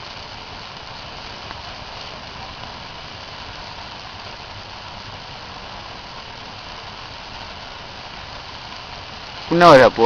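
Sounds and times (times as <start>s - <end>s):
bonfire rushing hiss: 0.0s - 10.0s
faint fire crackle: 0.0s - 10.0s.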